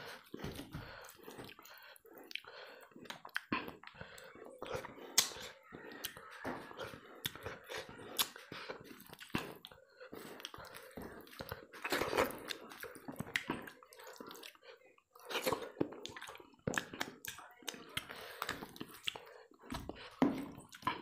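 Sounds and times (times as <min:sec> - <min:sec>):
mouth smacks and chewing: 0:00.0 - 0:21.0.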